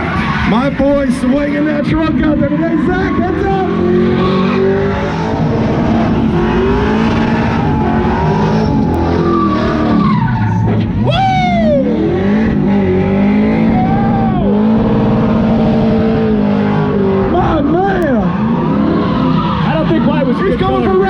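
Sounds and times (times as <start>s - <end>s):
truck engine revving: 0.0s - 21.0s
tyres skidding and squealing: 0.0s - 21.0s.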